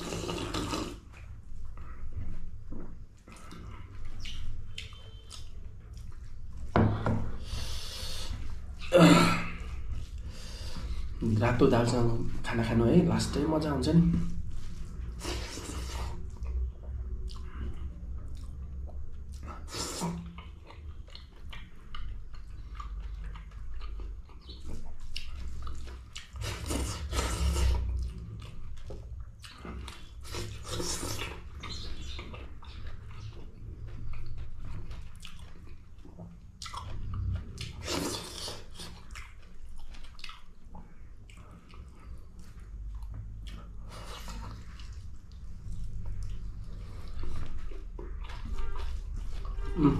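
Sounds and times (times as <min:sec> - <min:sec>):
close chewing with mouth smacks: 0:00.0 - 0:06.7, 0:14.5 - 0:49.9.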